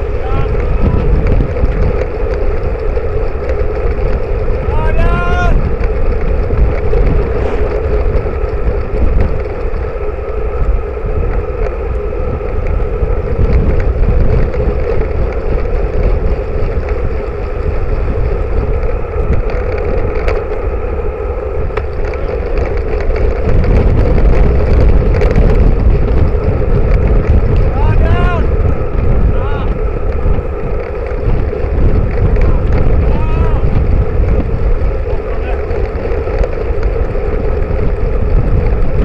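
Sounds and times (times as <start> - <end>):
bike tyres rumbling on tarmac: 0.0 - 39.0
constant drone: 0.0 - 39.0
wind rushing over microphone: 0.0 - 39.0.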